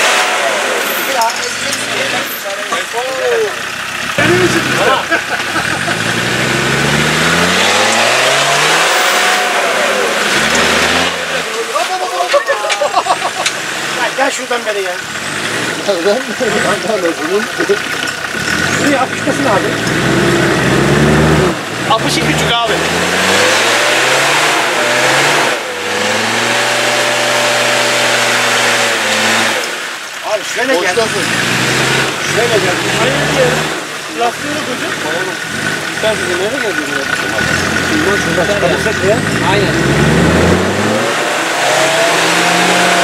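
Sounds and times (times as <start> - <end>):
diesel engine revving hard: 0.0 - 43.0.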